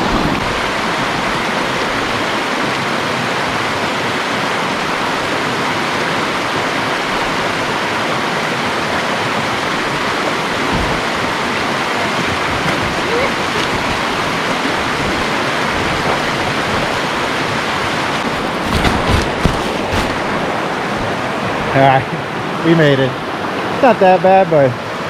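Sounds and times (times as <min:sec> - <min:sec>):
river rapid rushing: 0:00.0 - 0:25.0.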